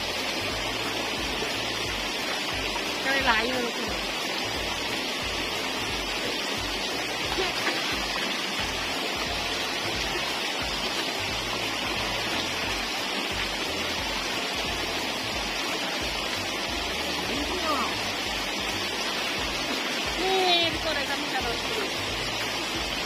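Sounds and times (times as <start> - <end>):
water gushing into a ditch: 0.0 - 23.0.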